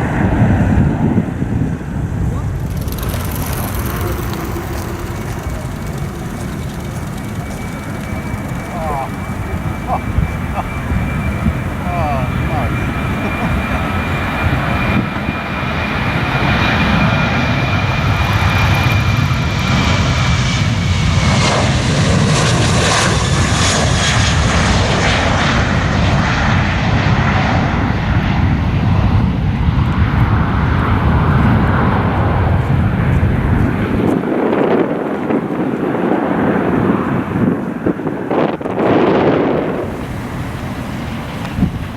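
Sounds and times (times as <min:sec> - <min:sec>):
high engine whine: 0:00.0 - 0:41.9
jet engines roaring: 0:00.0 - 0:41.9.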